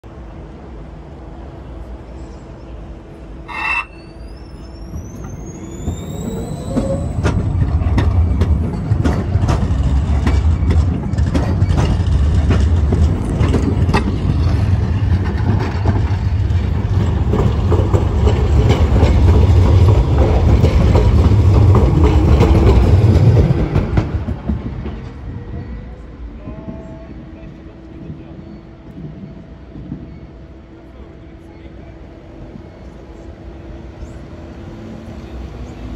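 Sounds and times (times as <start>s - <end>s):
tram hum: 0.0s - 35.9s
wheels rumbling on rails: 0.1s - 35.9s.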